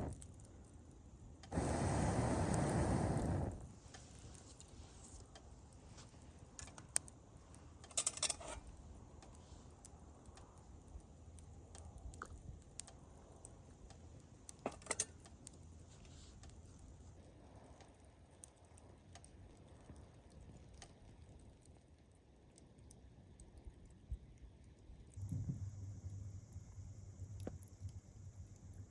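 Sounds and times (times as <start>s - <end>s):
campfire crackling: 0.0s - 28.9s.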